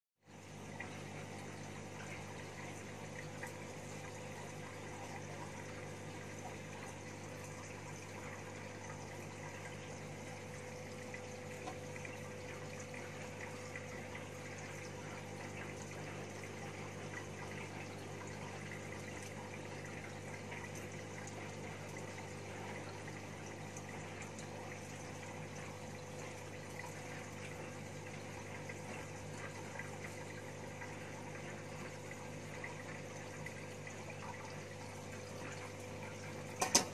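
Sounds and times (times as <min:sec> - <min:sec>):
water pump humming: 0:00.2 - 0:36.9.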